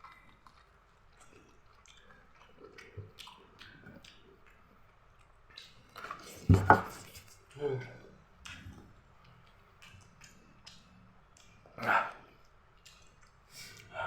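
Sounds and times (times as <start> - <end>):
person chewing: 0.0 - 7.6, 8.4 - 14.0.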